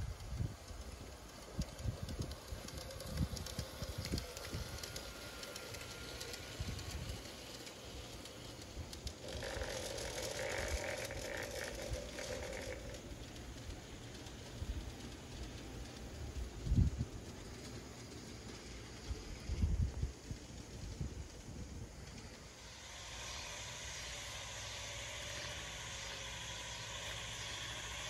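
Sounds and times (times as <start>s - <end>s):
model train wheels clicking: 0.0s - 28.0s.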